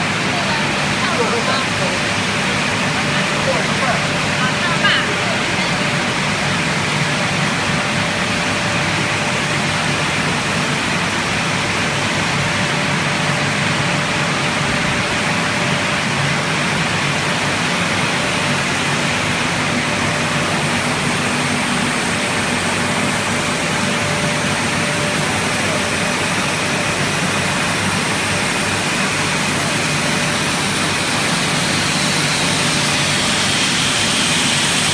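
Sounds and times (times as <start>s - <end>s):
machinery noise of motors: 0.0s - 34.9s.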